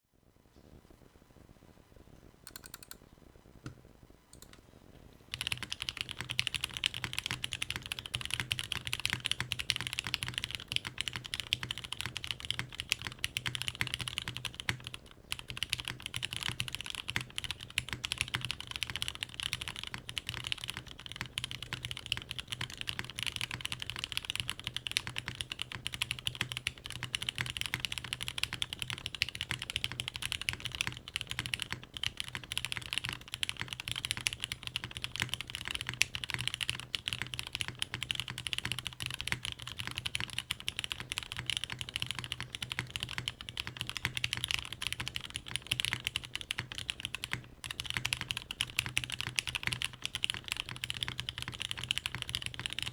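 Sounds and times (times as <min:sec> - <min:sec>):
keyboard typing clacks: 0:02.5 - 0:03.0, 0:05.3 - 0:52.9.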